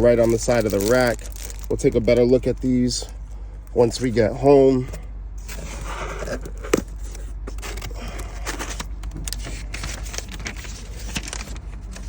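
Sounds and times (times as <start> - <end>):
paper and packaging rustling: 0.0 - 3.2, 5.4 - 12.0
steady low hum: 0.0 - 12.0.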